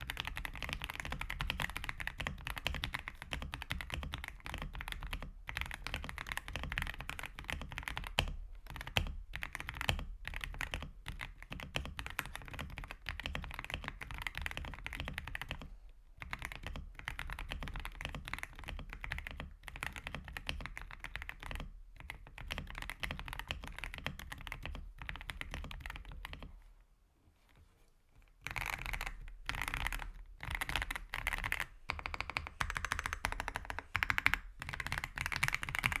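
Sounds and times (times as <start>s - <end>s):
fast mechanical keyboard typing: 0.0s - 26.5s, 28.4s - 36.0s.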